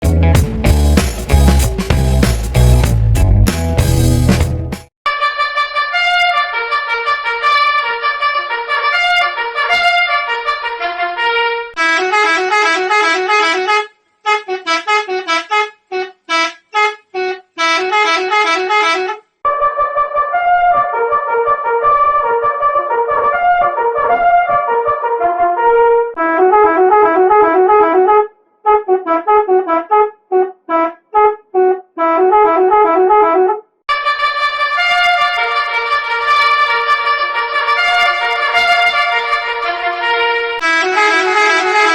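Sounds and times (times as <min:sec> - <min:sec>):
musical bus horn melody: 0:03.9 - 0:41.9.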